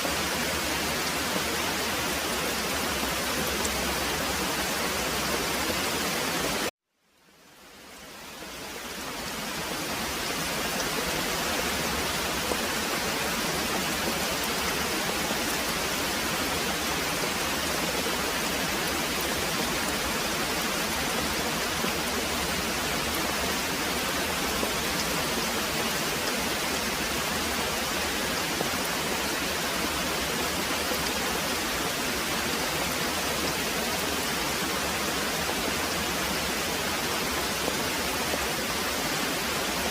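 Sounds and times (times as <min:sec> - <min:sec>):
heavy rain pouring: 0:00.0 - 0:06.7, 0:07.5 - 0:39.9.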